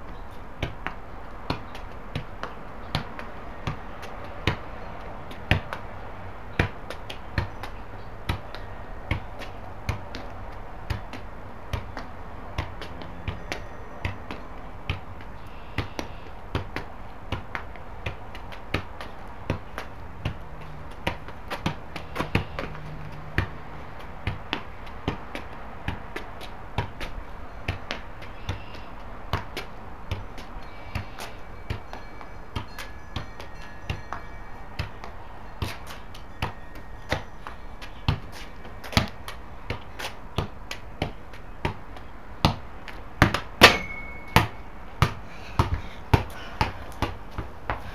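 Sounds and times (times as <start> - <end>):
ball being juggled thuds: 0.0 - 47.9.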